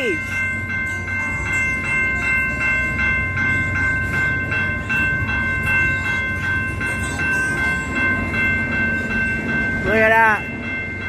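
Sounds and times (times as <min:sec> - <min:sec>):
level-crossing warning bell: 0:00.0 - 0:11.0
train rumbling past: 0:00.0 - 0:11.0.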